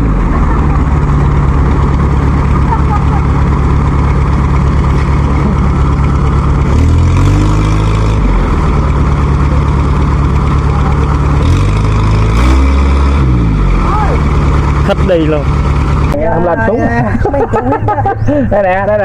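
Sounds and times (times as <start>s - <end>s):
farm machinery engine revving: 0.0s - 19.0s.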